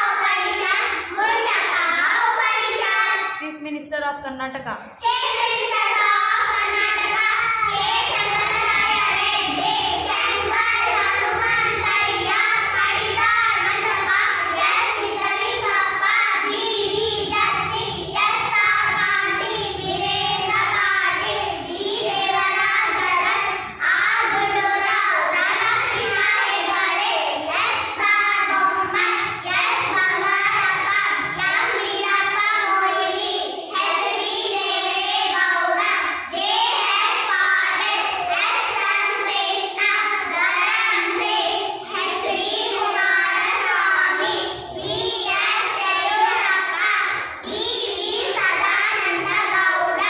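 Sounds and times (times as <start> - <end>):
girls singing in unison: 0.0 - 3.4, 4.8 - 50.0.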